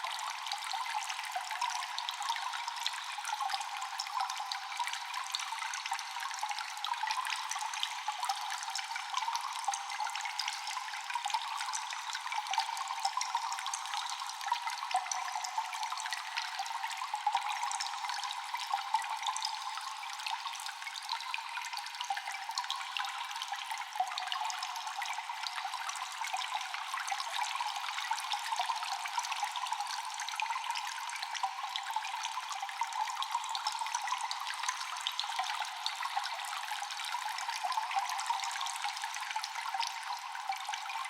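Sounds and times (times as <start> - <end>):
trickle of running water: 0.0 - 41.0
water dripping with echo: 0.0 - 41.0.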